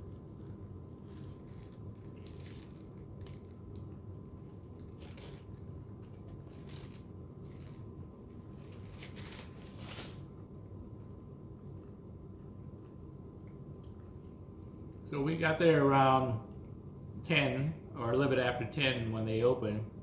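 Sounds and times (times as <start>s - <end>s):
low hum: 0.0s - 19.2s.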